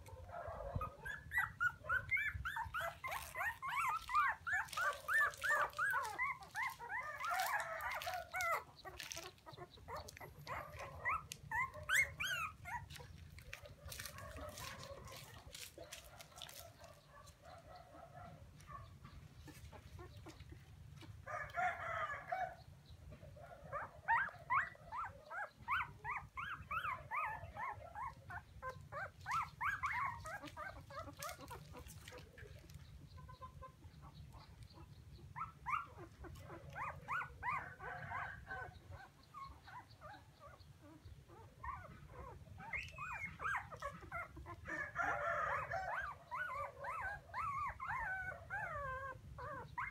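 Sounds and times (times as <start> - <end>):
puppies whimpering: 0.0 - 17.7, 23.6 - 49.9.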